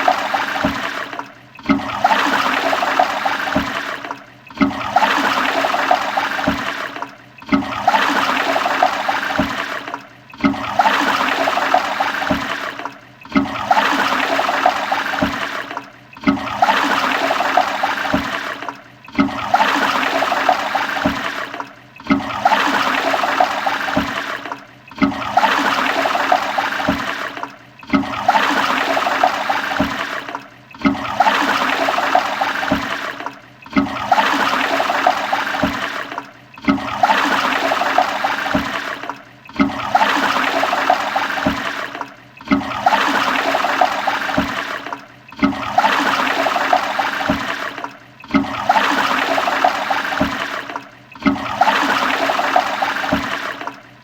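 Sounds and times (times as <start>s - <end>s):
toilet flushing: 0.0s - 54.0s.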